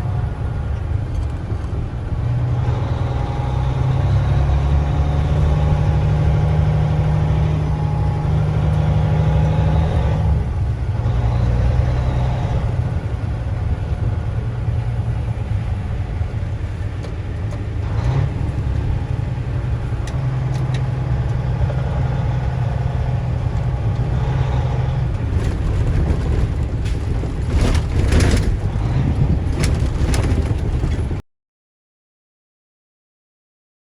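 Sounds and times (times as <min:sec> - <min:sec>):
vehicle engine humming: 0:00.0 - 0:31.2.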